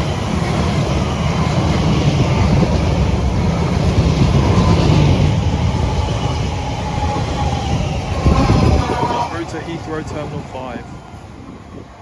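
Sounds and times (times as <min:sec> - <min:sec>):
faint train whine: 0:00.0 - 0:12.0
train wheels rumbling on rail: 0:00.0 - 0:12.0.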